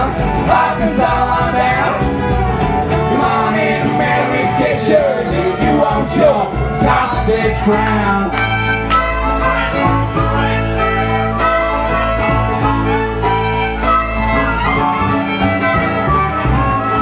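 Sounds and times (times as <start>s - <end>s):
acoustic guitar strumming: 0.0s - 17.0s
banjo strumming: 0.0s - 17.0s
fiddle: 0.0s - 17.0s.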